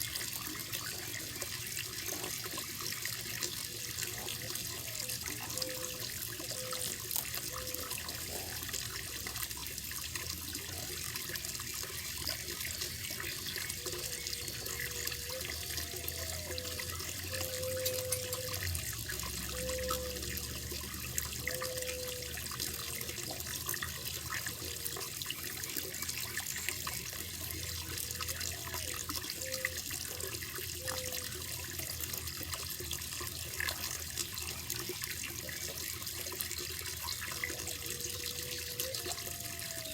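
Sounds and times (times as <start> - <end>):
water splashing into a pond: 0.0 - 39.9.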